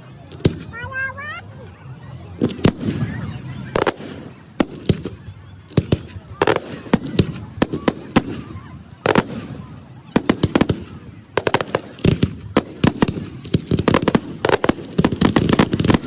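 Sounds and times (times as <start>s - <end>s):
fireworks bursting: 0.1s - 1.4s, 2.3s - 16.0s.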